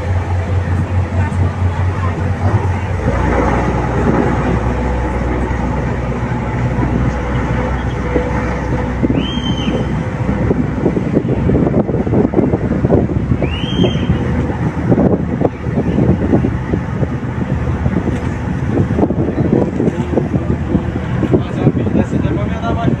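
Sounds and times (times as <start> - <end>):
boat diesel engines rumbling: 0.0 - 23.0
wind buffeting microphone: 0.0 - 23.0.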